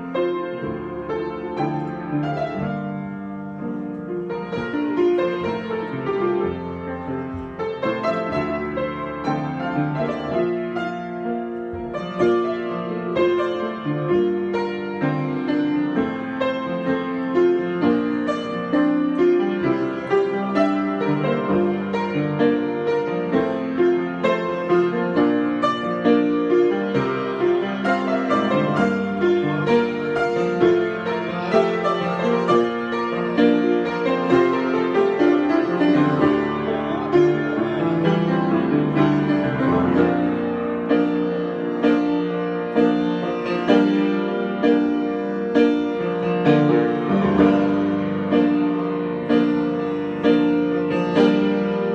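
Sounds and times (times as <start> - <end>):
solo piano improvisation: 0.0 - 51.9.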